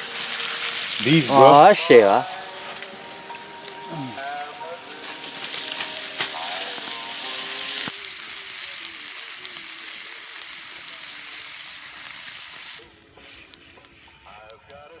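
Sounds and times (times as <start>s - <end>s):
food sizzling over a fire: 0.0s - 15.0s.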